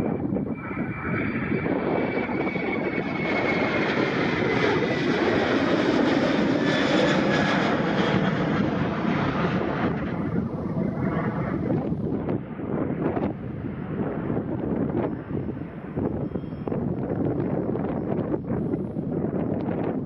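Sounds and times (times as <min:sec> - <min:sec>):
jet airliner roar: 0:00.0 - 0:20.0
jet engine whine: 0:00.0 - 0:20.0.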